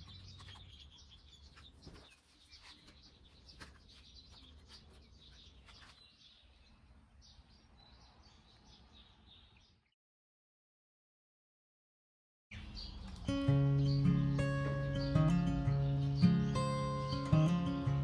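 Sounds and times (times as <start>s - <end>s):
faint birds chirping: 0.0s - 10.0s, 12.5s - 18.0s.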